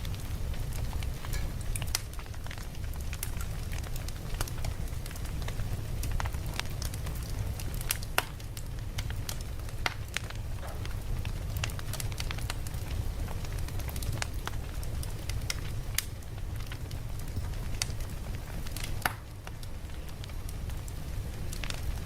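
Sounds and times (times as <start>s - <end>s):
campfire crackles and pops: 0.0s - 22.0s
flames rumbling: 0.0s - 22.0s.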